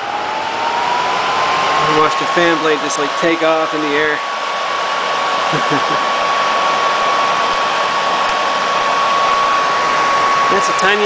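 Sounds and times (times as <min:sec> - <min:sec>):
hair dryer motor whining: 0:00.0 - 0:11.0.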